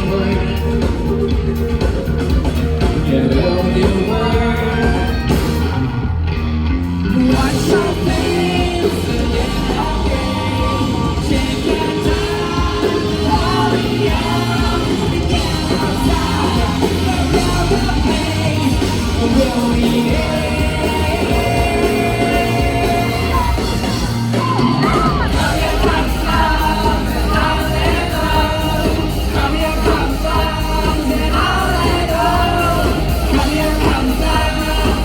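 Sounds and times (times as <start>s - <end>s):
live rock band with vocals: 0.0s - 35.0s.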